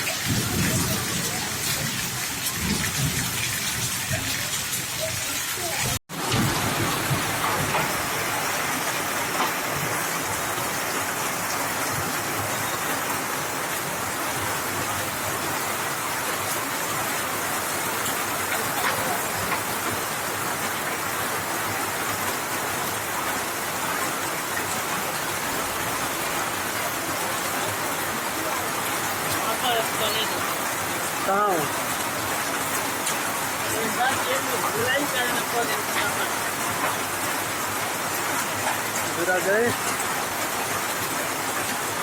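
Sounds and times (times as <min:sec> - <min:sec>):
heavy rain drumming: 0:00.0 - 0:42.0.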